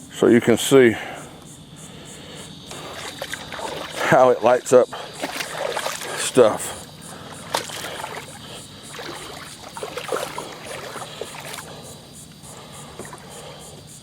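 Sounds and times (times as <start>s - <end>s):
boat motor hum: 0.0s - 14.0s
water noise: 1.3s - 14.0s.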